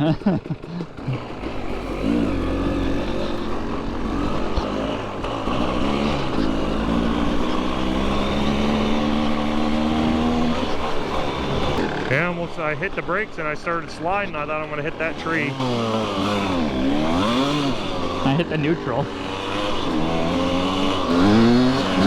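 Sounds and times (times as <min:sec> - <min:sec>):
two-stroke dirt bike engine: 0:00.0 - 0:22.0.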